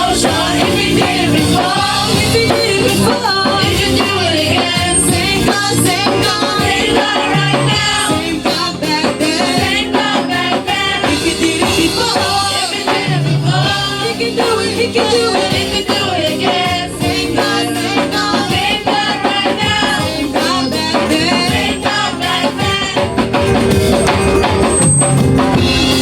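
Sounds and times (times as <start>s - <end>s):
gospel singing with instruments: 0.0s - 26.0s
percussion beat: 0.0s - 26.0s.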